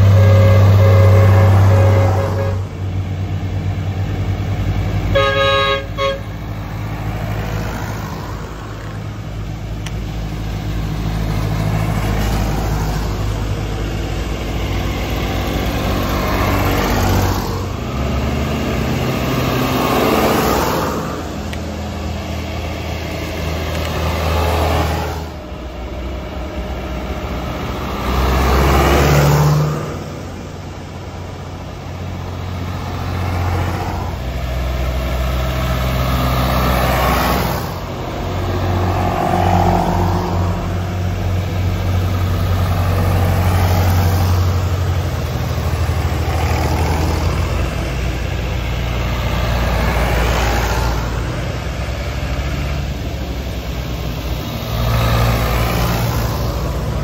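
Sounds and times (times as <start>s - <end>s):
tractors driving past: 0.0s - 57.0s.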